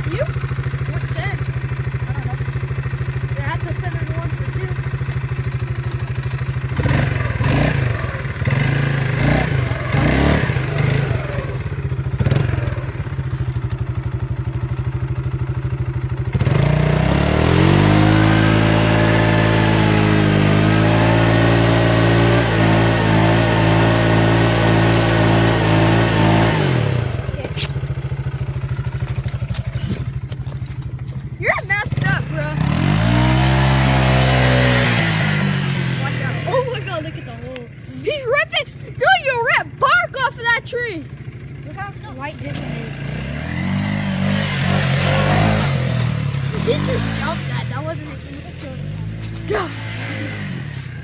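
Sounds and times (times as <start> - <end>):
quad bike engine revving: 0.0 - 51.0.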